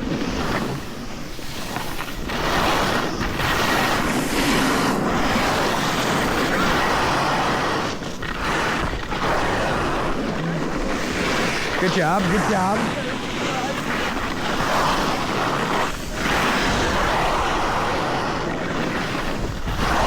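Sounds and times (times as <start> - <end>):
snowboard scraping over snow: 0.0 - 20.0
wind on microphone: 0.0 - 20.0.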